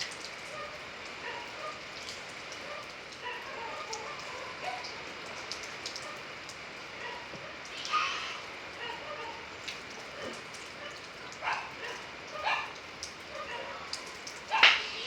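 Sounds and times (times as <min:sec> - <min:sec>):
raindrops ticking and plinking: 0:00.0 - 0:15.0
steady rain falling: 0:00.0 - 0:15.0.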